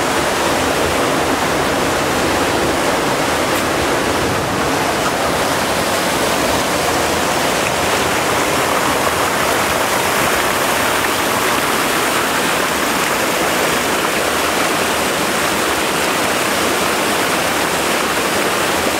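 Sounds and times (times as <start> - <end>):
churning water rushing: 0.0 - 18.9.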